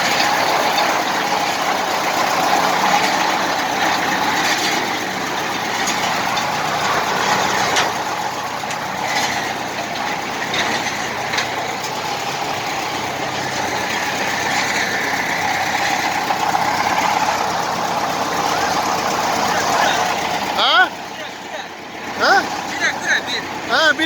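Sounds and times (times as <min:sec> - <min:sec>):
digging machine engine running: 0:00.0 - 0:24.0.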